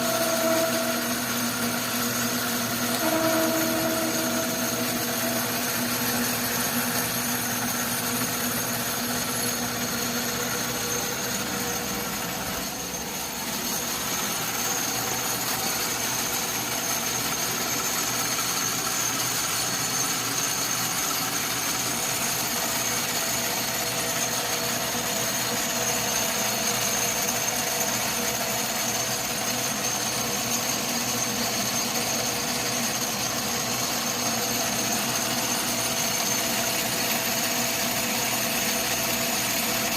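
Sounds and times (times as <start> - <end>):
metal lathe humming with whine: 0.0 - 39.9.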